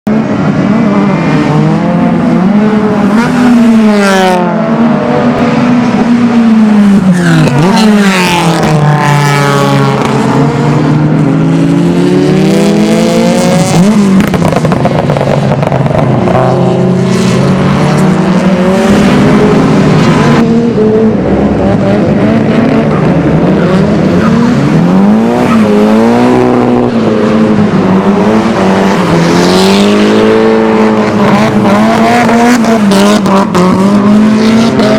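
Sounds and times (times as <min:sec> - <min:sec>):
race car engines revving: 0:00.0 - 0:34.9
cars passing: 0:00.1 - 0:34.9.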